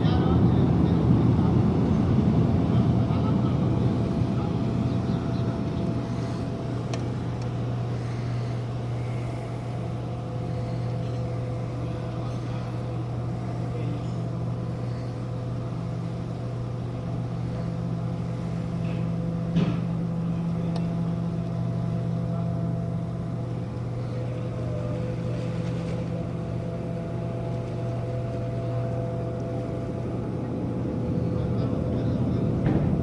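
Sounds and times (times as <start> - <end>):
ship machinery humming: 0.0 - 33.0.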